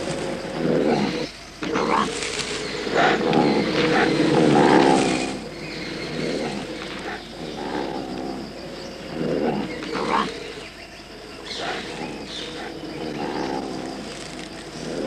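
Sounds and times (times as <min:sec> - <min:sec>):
animals growling and snarling: 0:00.0 - 0:15.0.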